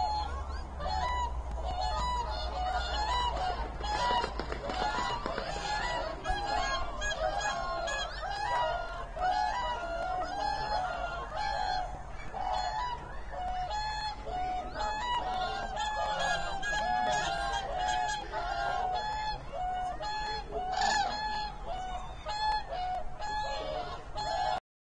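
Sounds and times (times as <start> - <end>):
flock of waterbirds calling: 0.0 - 24.6.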